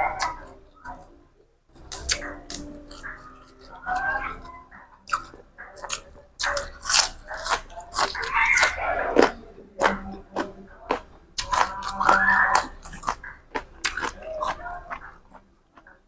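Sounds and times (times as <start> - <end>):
crunching raw vegetables: 0.0 - 16.0.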